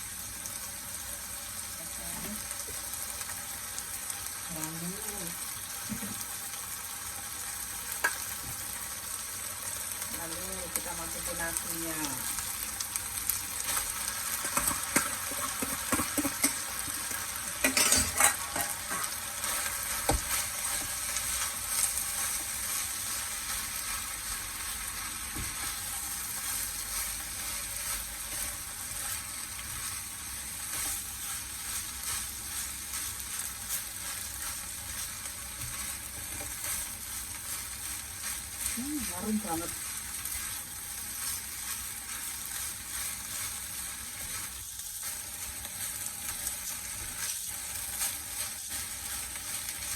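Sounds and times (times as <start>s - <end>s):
rice sizzling in a hot pan: 0.0s - 49.9s.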